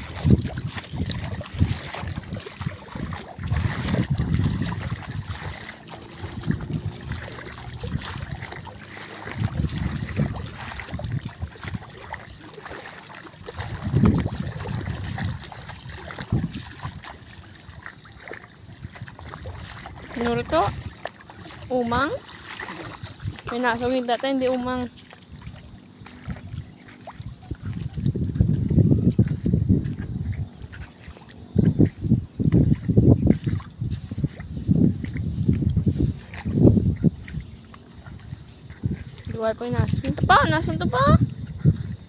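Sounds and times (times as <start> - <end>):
feet wading through water: 0.0 - 42.0
wind buffeting microphone: 0.0 - 42.0.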